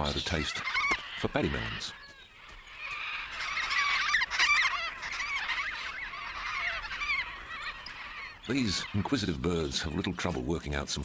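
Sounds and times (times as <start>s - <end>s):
cockatoos calling: 0.0s - 10.4s.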